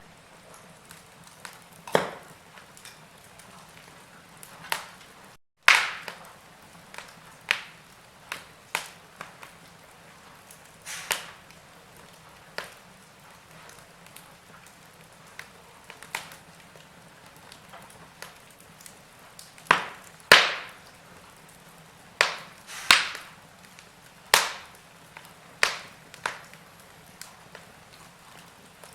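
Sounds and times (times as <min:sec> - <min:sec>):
firewood crackling and popping: 0:00.0 - 0:28.9
soft steady fire hiss: 0:00.0 - 0:28.9.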